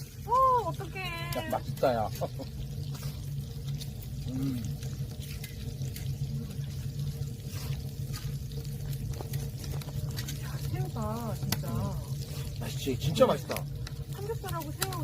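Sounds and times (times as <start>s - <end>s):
faint crackles: 0.0s - 15.0s
meat sizzling on griddle: 0.0s - 15.0s
steady low hum: 0.0s - 15.0s.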